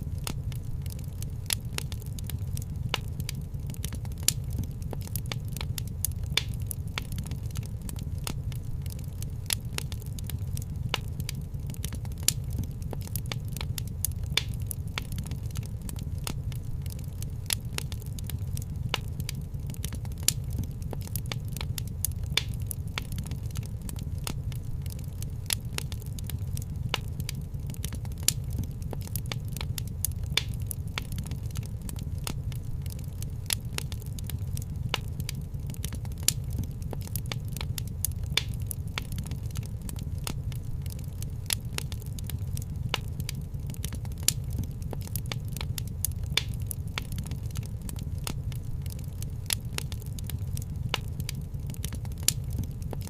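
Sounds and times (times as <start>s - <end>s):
fireplace crackling: 0.0s - 53.0s.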